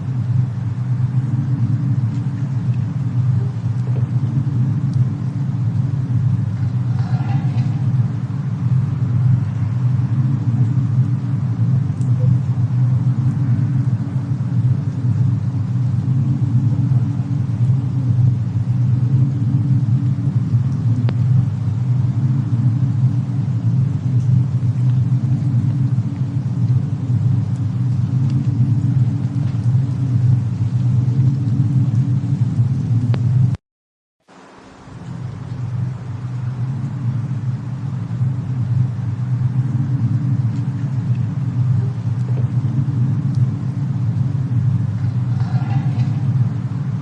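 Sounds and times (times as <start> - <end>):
deep steady rumble: 0.0 - 33.6, 34.2 - 47.0
faint fire crackles: 0.0 - 33.6, 34.2 - 47.0.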